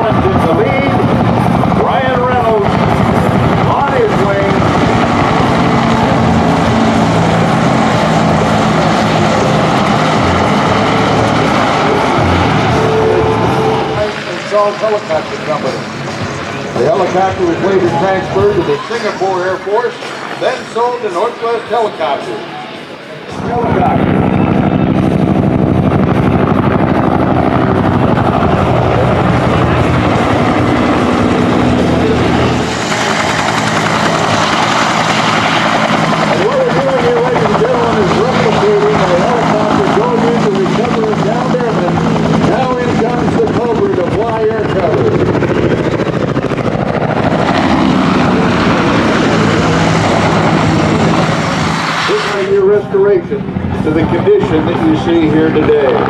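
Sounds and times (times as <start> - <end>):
helicopters flying: 0.0 - 56.0.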